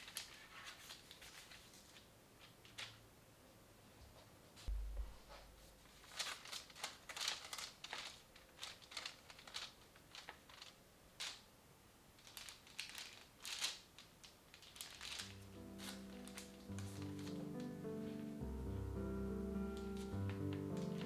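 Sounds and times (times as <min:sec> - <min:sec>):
faint rustling and crinkling: 0:00.0 - 0:03.1, 0:03.8 - 0:11.5, 0:12.1 - 0:18.4, 0:19.6 - 0:21.0.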